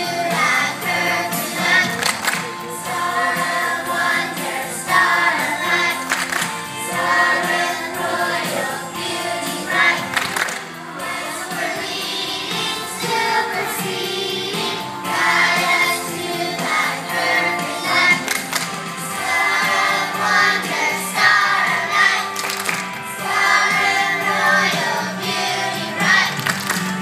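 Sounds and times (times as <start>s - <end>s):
children's choir singing: 0.0s - 26.8s.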